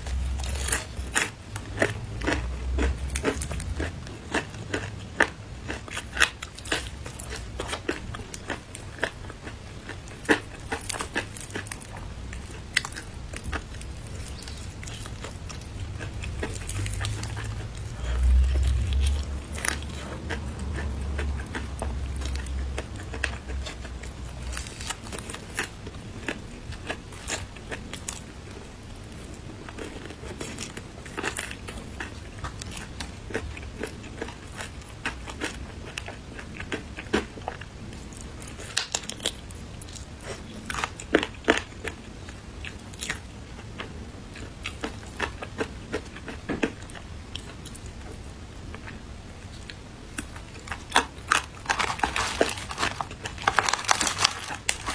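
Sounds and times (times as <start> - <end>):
crunching fried chicken: 0.0 - 54.9.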